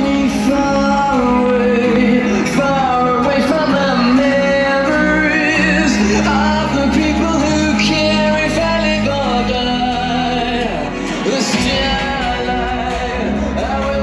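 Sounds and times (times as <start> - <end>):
person singing: 0.0 - 14.0
soundtrack music: 0.0 - 14.0.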